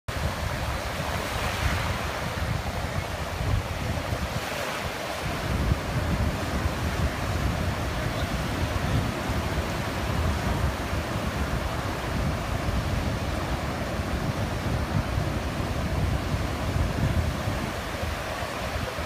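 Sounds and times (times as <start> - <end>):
ocean surf breaking: 0.1 - 19.0
wind buffeting microphone: 0.1 - 19.0.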